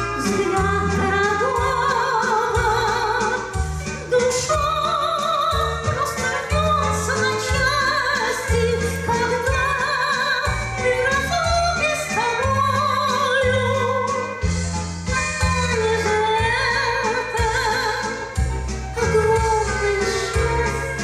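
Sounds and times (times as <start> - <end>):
instrumental accompaniment: 0.0 - 21.0
person singing with vibrato: 0.0 - 21.0.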